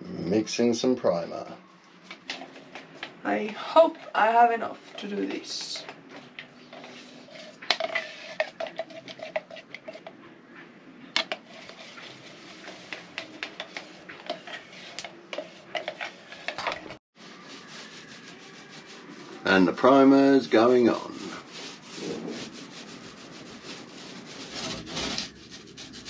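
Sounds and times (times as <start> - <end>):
stick scraping inside a can: 3.5 - 10.2, 11.2 - 26.0.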